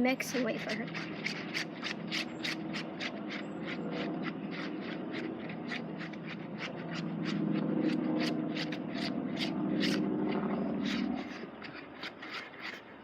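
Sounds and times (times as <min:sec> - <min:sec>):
utensil scraping a bowl: 0:00.0 - 0:13.0.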